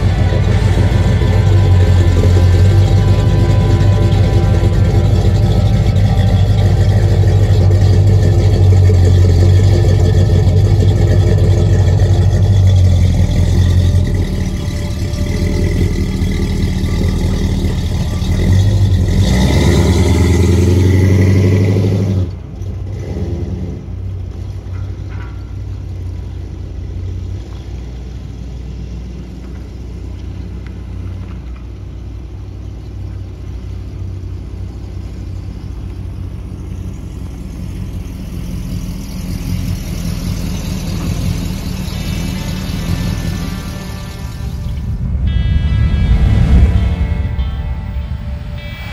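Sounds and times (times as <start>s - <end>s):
car engine pulling away: 0.0s - 48.9s.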